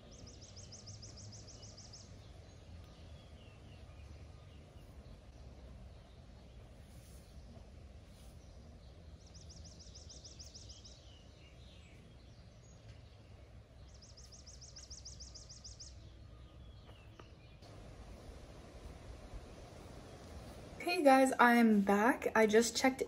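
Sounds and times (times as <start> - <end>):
faint outdoor background noise: 0.0 - 23.0.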